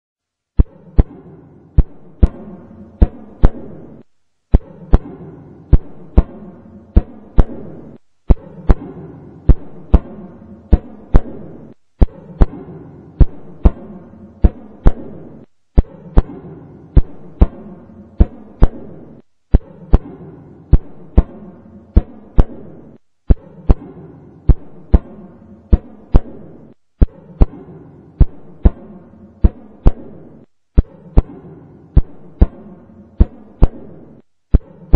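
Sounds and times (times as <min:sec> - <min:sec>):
low hum: 0:00.2 - 0:34.9
heartbeat thumps: 0:00.6 - 0:34.9.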